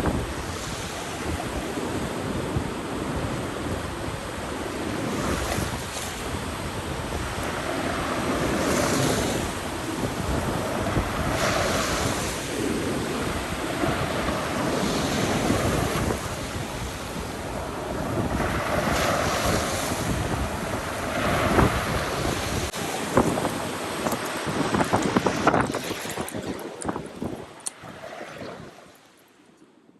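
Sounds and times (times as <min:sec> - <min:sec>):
strong wind buffeting microphone: 0:00.0 - 0:28.8
waves breaking: 0:04.3 - 0:29.4.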